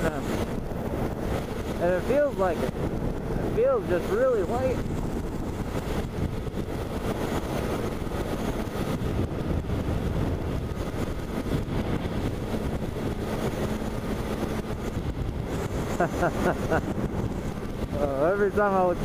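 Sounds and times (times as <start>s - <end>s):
motorcycle engine drone: 0.0s - 19.0s
road noise: 0.0s - 19.0s
wind rush: 0.0s - 19.0s.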